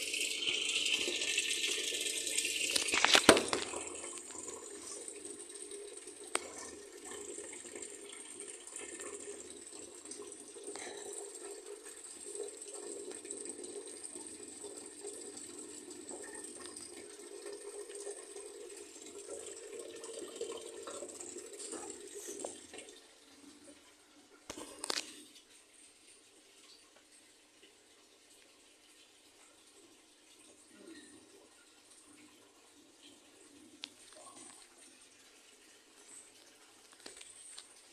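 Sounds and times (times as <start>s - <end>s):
water running: 0.0s - 37.9s.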